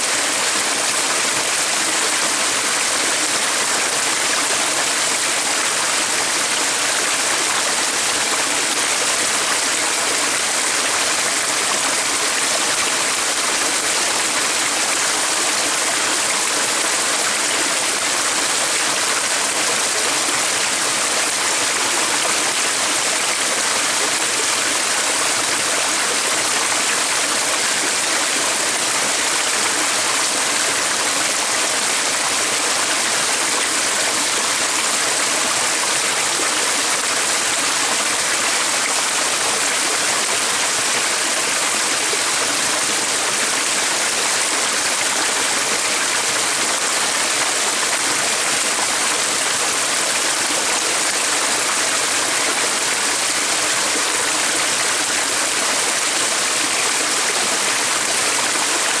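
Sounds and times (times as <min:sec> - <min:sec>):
stream of running water: 0:00.0 - 0:59.0.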